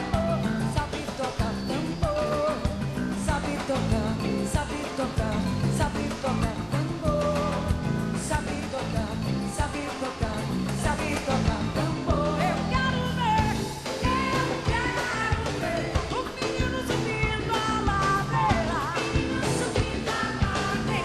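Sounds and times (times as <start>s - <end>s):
live band playing: 0.0s - 21.0s
person singing: 0.0s - 21.0s.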